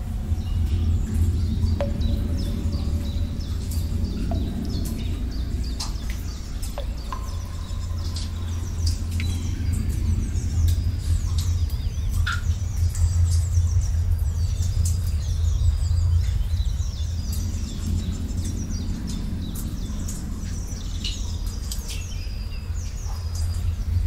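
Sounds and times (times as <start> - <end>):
small birds chirping: 0.0 - 24.0
steady low drone: 0.0 - 24.0
water drips plinking: 0.0 - 24.0.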